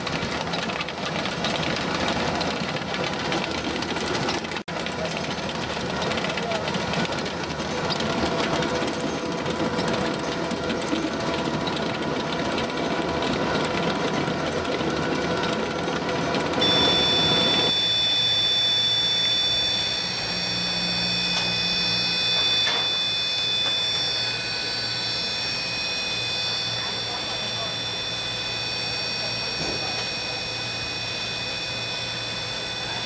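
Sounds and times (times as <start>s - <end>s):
filling machine rattling: 0.0s - 33.0s
machine whining over low hum: 5.7s - 33.0s.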